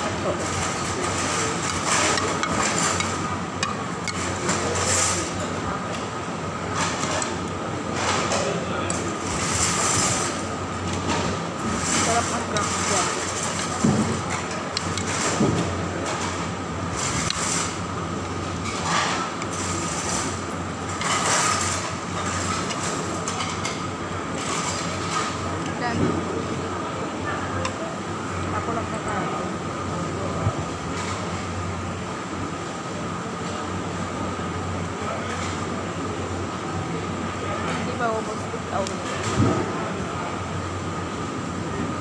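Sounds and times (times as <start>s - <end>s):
restaurant din: 0.0s - 42.0s.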